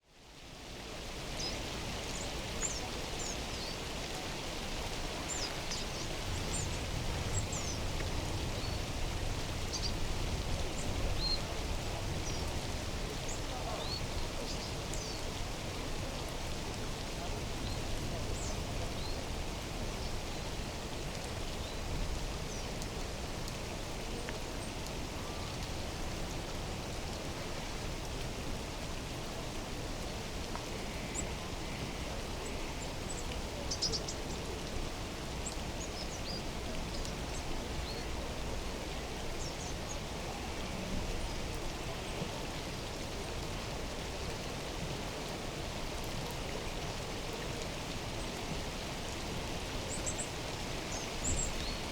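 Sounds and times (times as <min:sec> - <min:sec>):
water rushing: 0:00.4 - 0:51.9.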